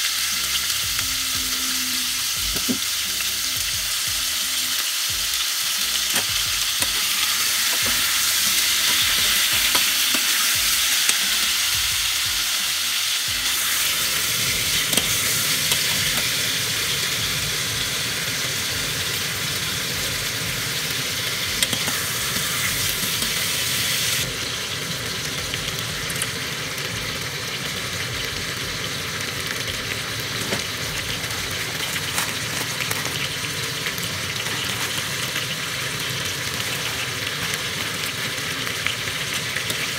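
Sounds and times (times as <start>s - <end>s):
meat and onions sizzling: 0.0s - 39.9s.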